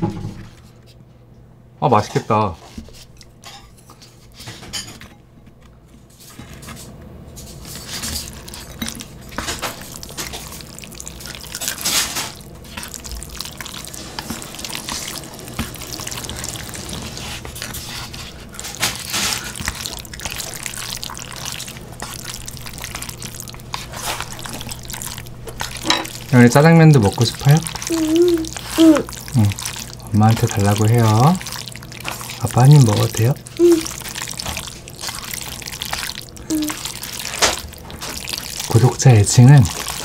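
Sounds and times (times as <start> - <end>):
noodles squelching in sauce: 7.5 - 40.0.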